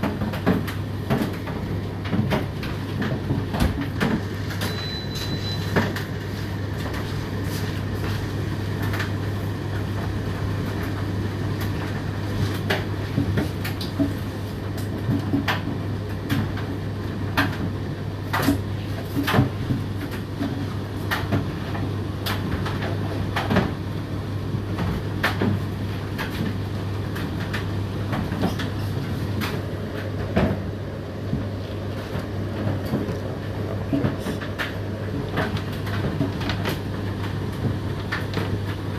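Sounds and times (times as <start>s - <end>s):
tumble dryer motor hum: 0.0s - 38.9s.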